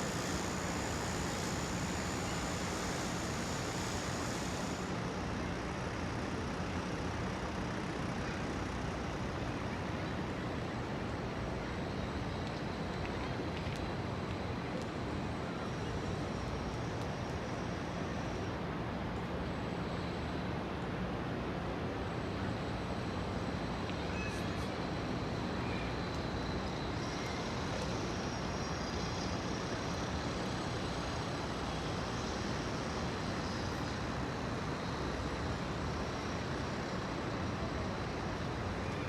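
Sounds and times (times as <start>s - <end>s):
faint high whine: 0.0s - 39.0s.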